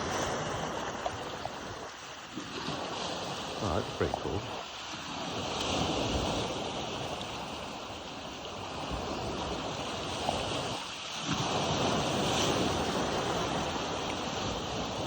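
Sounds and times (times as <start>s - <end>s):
surf: 0.0s - 15.0s.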